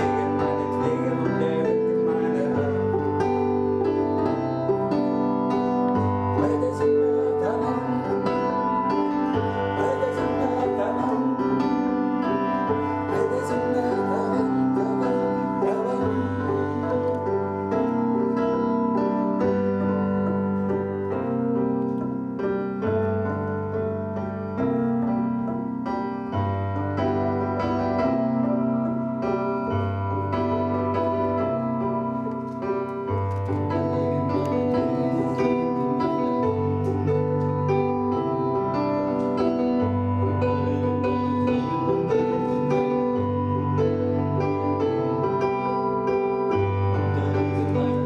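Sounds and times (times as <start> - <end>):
piano background music: 0.0 - 48.0.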